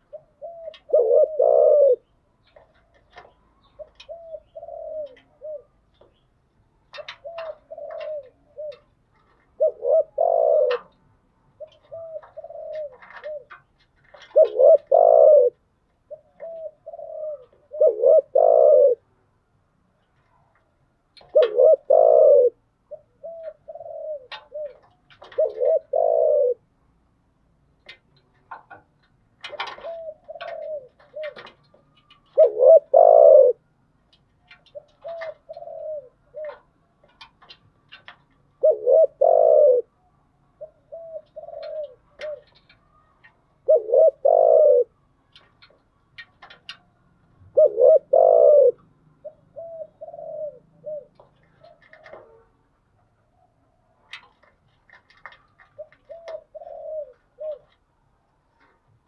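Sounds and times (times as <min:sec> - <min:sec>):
dove cooing: 0:00.0 - 0:06.2, 0:06.9 - 0:19.2, 0:21.2 - 0:26.7, 0:29.4 - 0:33.7, 0:34.5 - 0:45.8, 0:46.4 - 0:52.6, 0:53.3 - 0:57.9.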